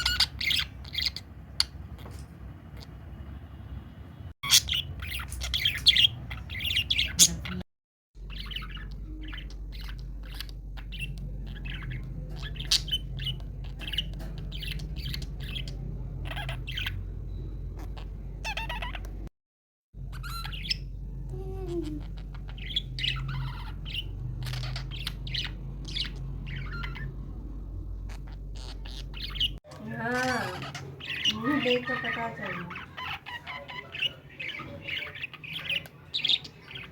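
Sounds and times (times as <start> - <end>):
budgies chirping and squawking: 0.0 - 3.5, 4.4 - 7.6, 8.2 - 19.3, 20.0 - 36.9.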